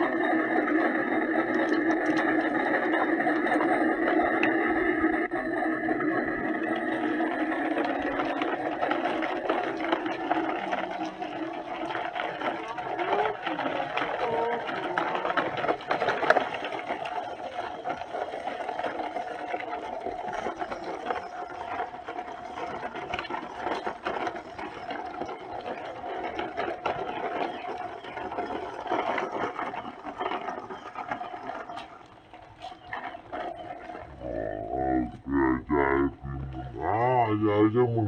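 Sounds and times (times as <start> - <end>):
scattered clicks: 0.0 - 38.0
toy electric motor whining: 0.0 - 38.0.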